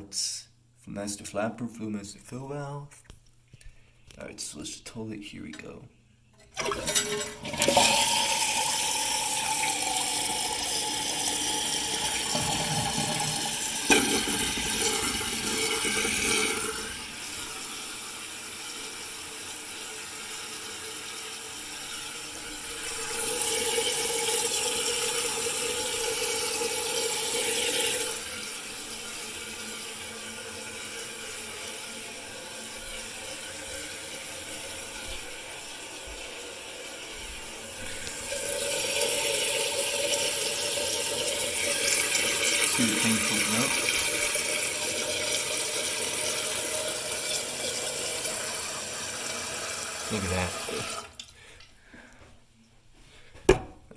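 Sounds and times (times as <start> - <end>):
toilet flushing: 6.4 - 51.4
toilet tank refilling hiss: 6.4 - 51.4.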